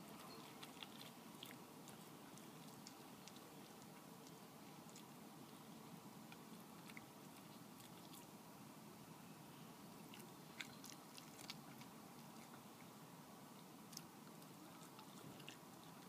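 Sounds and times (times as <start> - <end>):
fox crunching food: 0.0 - 8.4, 9.9 - 16.0
quiet hiss: 0.0 - 16.0.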